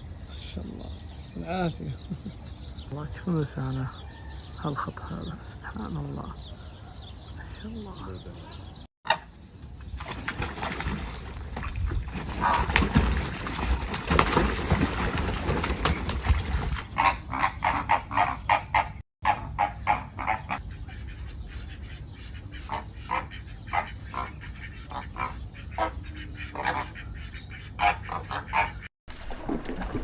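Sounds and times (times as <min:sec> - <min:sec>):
birds calling rapidly: 0:00.0 - 0:19.0, 0:19.6 - 0:28.9.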